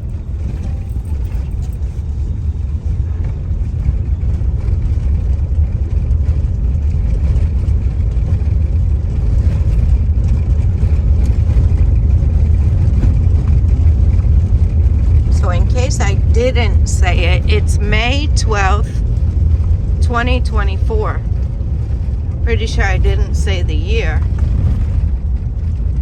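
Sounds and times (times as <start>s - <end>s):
car interior engine and road noise: 0.0s - 26.0s.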